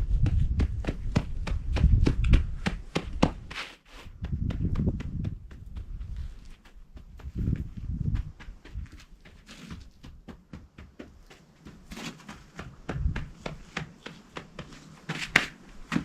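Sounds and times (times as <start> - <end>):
dull thumps: 0.1 - 16.0
taps scrapes and rustles: 3.2 - 16.0.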